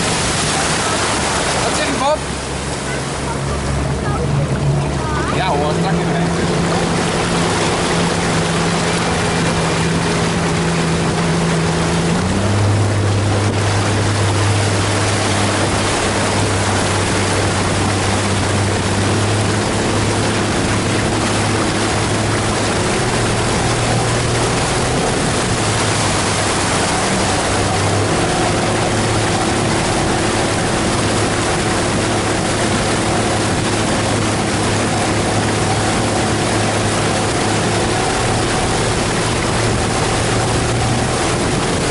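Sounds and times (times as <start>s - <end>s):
outboard motor running: 0.0s - 41.9s
wind and wake water rushing: 0.0s - 41.9s.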